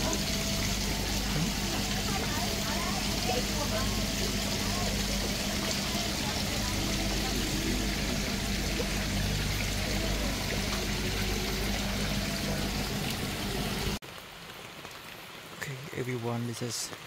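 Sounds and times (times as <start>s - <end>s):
low steady hum: 0.0s - 14.0s
water pouring into a pond: 0.0s - 17.0s.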